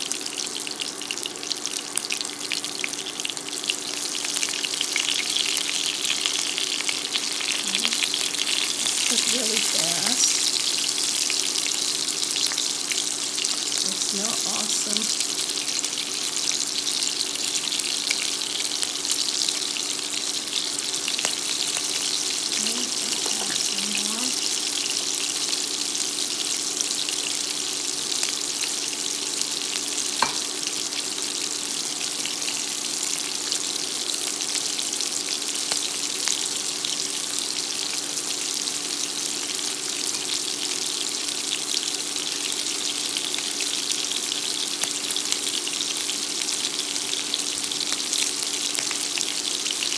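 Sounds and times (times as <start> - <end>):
shrimp frying in oil: 0.0 - 49.9.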